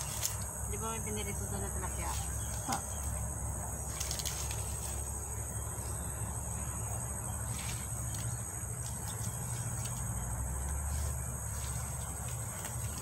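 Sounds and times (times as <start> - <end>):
insect chorus drone: 0.0 - 13.0
faint rustles: 1.7 - 13.0.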